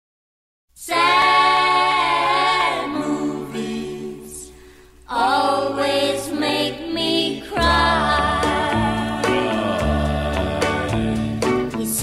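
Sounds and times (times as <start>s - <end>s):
a cappella choir singing chords: 0.8s - 12.0s.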